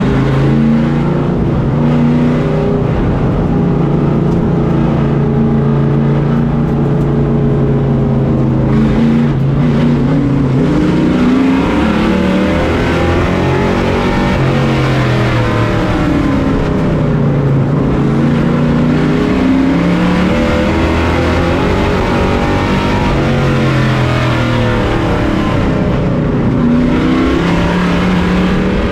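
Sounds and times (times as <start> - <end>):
race truck engine: 0.0 - 28.9.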